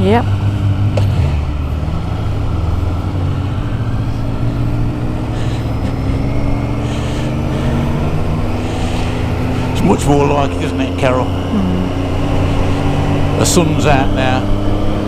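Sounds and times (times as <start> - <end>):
motorcycle engine drone: 0.0 - 15.0
road noise: 0.0 - 15.0.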